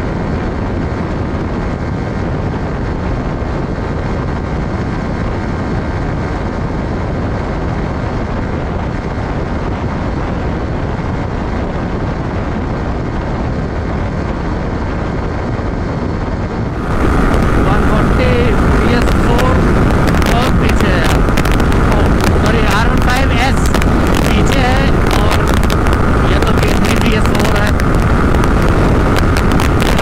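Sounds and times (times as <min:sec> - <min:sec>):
motorcycle engine at high speed: 0:00.0 - 0:30.0
wind rushing on microphone: 0:00.0 - 0:30.0.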